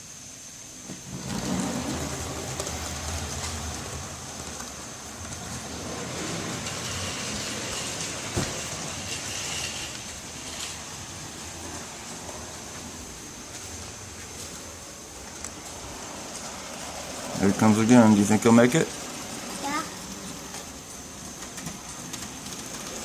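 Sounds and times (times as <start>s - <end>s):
model train wheels whirring: 0.0s - 23.0s.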